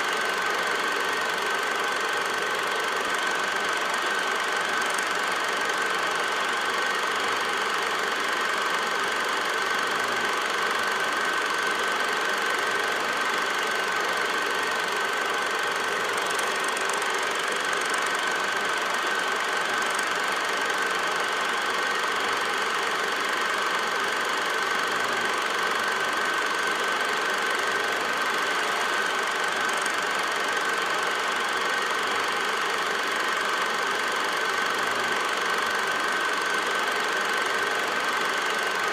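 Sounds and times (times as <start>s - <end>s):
film projector whir and clatter: 0.0s - 38.9s.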